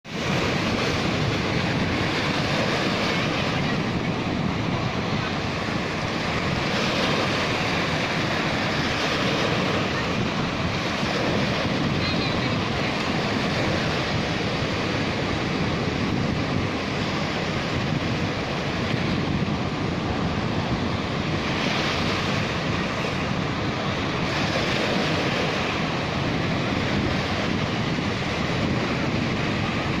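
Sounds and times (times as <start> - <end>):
sea surf breaking on sand: 0.0 - 30.0.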